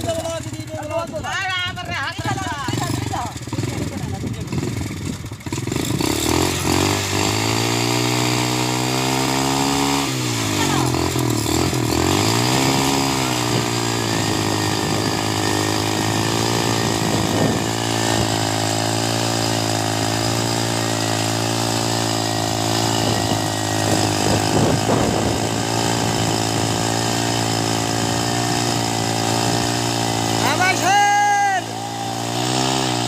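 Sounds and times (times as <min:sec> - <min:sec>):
small petrol engine running: 0:00.0 - 0:33.0.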